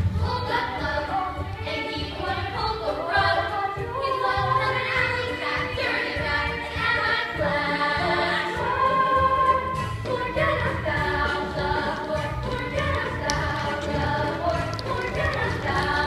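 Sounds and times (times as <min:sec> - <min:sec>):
musical accompaniment: 0:00.0 - 0:16.0
voices singing together: 0:00.0 - 0:16.0.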